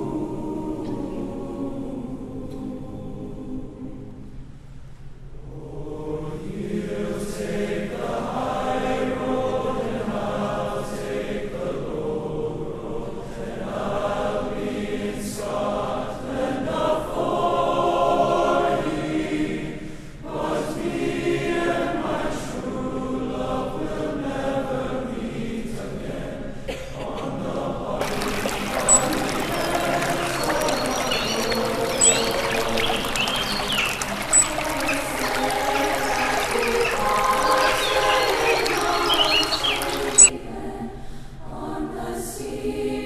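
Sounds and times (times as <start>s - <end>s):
choir singing: 0.0s - 4.3s, 5.4s - 43.0s.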